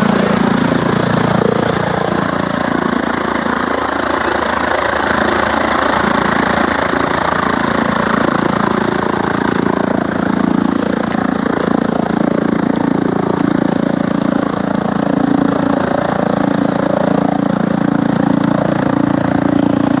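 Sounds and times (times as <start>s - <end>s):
tractor driving chaff cutter: 0.0s - 20.0s.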